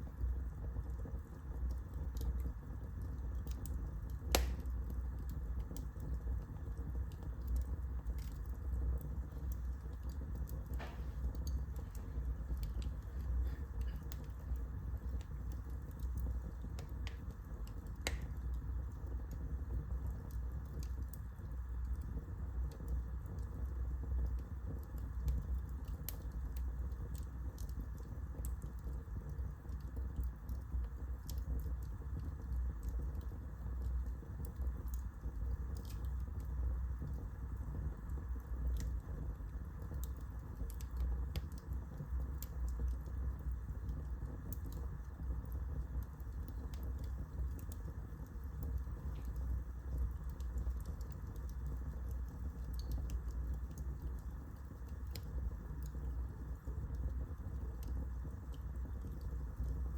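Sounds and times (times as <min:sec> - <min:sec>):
burning wood crackling and popping: 0:00.0 - 0:59.9
fire low rumble: 0:00.0 - 0:59.9.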